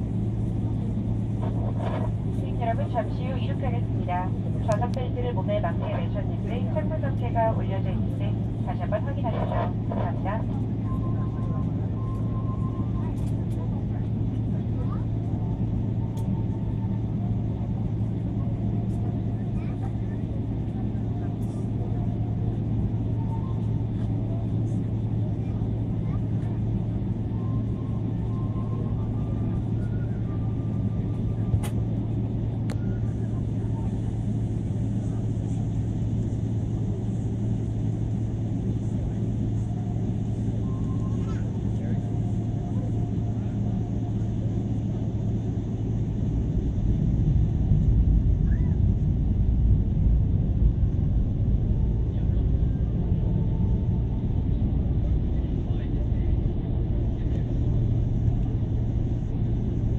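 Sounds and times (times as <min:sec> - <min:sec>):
aircraft cabin rumble: 0:00.0 - 0:59.9
jet engines droning: 0:00.0 - 0:59.9.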